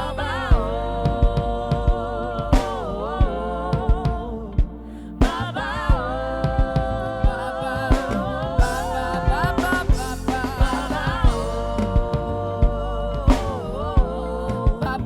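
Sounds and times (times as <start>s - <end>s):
keyboard: 0.0s - 15.0s
drum beat: 0.5s - 15.0s.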